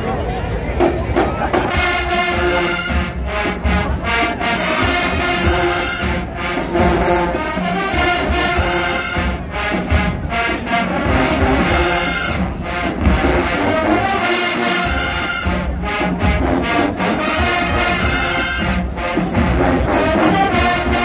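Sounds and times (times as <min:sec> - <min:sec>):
marching band brass music: 0:00.8 - 0:21.0.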